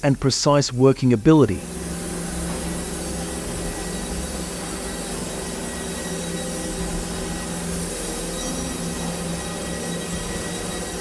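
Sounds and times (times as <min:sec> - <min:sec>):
band sawmill running: 0:00.0 - 0:11.0.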